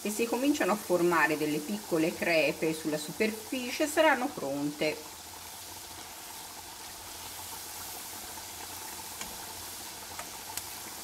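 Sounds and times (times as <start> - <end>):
dough sizzling in oil: 0.0 - 11.0.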